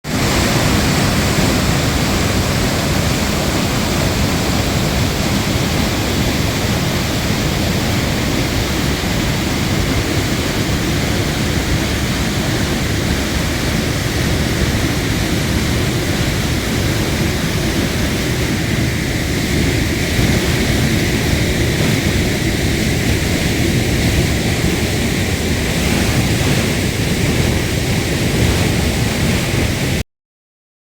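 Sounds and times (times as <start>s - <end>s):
waterfall crashing: 0.0s - 30.0s.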